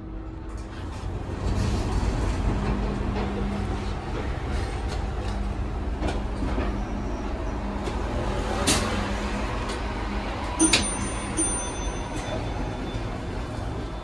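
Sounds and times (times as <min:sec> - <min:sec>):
street traffic rumbling: 0:00.0 - 0:14.0.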